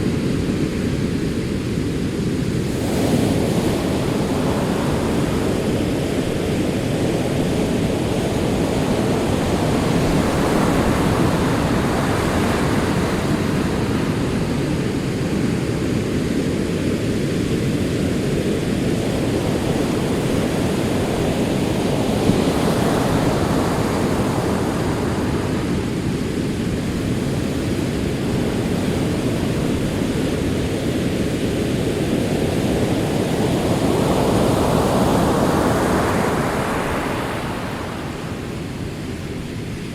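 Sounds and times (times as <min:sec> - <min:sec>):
sea waves on a shore: 0:00.0 - 0:39.9.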